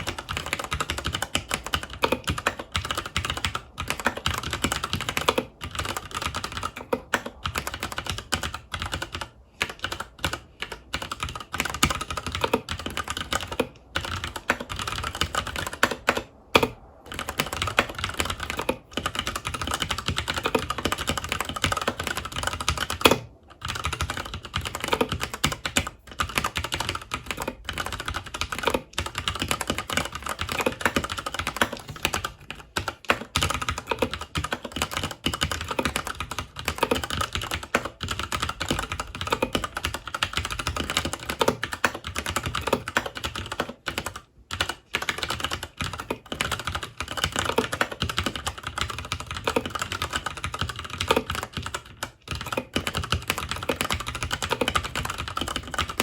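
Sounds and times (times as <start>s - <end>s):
mechanical keyboard typing: 0.0s - 56.0s.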